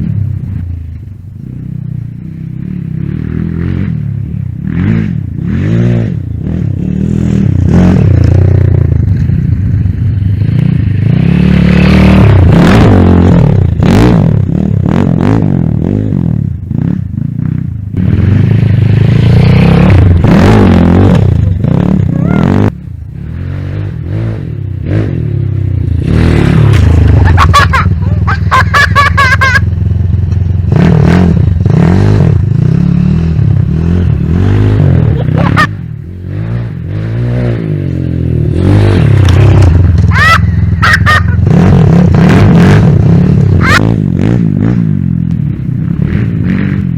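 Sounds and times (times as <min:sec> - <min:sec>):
dirt bike engine revving: 0:01.5 - 0:46.9.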